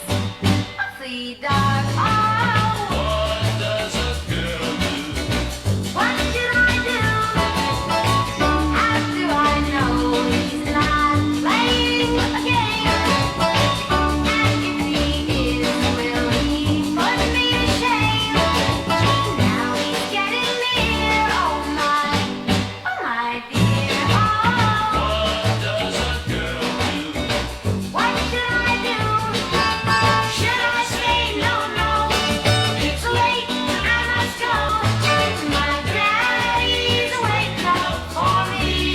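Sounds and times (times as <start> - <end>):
pop record playing: 0.0 - 38.9.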